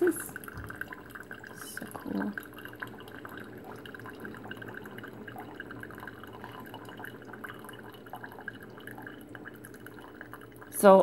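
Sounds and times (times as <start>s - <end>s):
coffee trickling into a mug: 0.0s - 11.0s.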